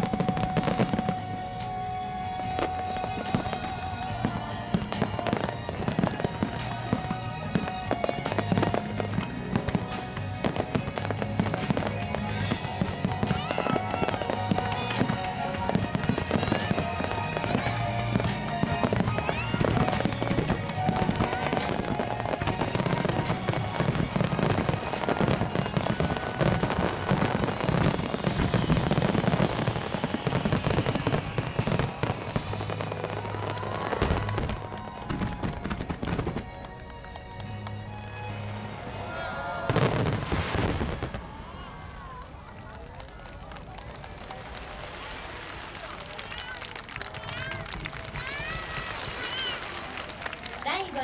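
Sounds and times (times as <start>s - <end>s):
fireworks bursting and crackling: 0.0s - 37.8s, 38.5s - 51.0s
music playing: 0.0s - 41.4s.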